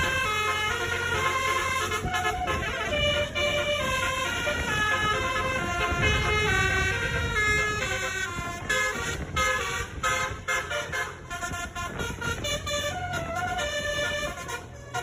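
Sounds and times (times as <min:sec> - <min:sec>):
multi-tone horn playing tune: 0:00.0 - 0:15.0.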